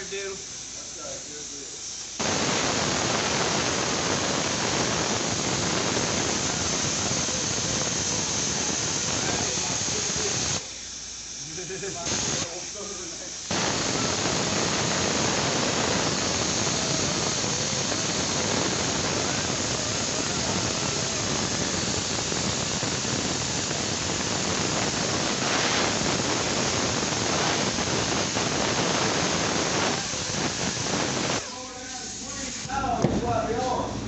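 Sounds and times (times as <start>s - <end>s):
loud steady hiss: 0.0s - 34.0s.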